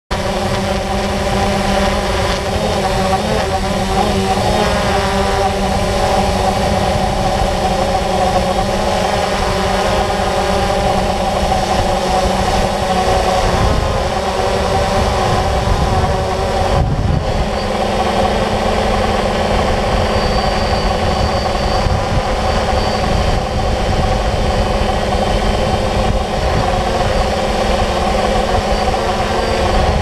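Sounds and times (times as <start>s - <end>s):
drone motors whining: 0.1s - 30.0s
wind rumble: 0.1s - 30.0s.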